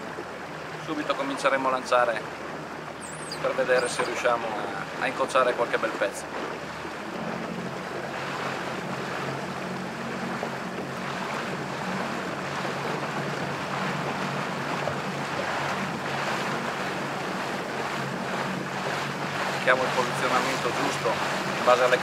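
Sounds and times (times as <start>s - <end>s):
motorboat engine humming: 0.0s - 22.0s
water rushing past hull: 0.0s - 22.0s.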